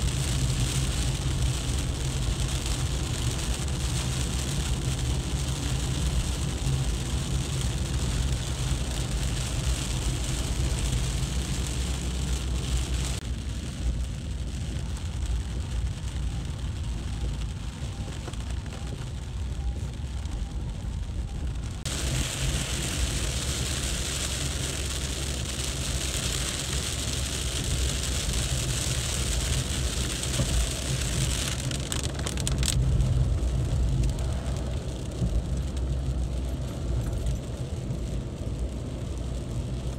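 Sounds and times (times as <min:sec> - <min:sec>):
heavy rain hiss: 0:00.0 - 0:17.9, 0:21.6 - 0:39.9
cars driving on wet road: 0:00.0 - 0:39.9.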